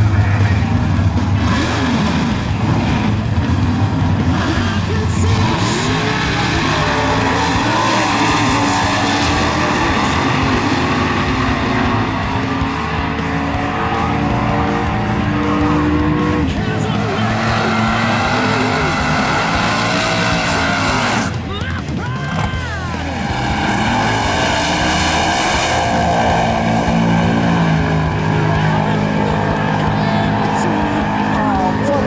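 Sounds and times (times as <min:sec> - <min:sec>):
music playing: 0:00.0 - 0:32.0
race car engines revving: 0:00.0 - 0:32.0.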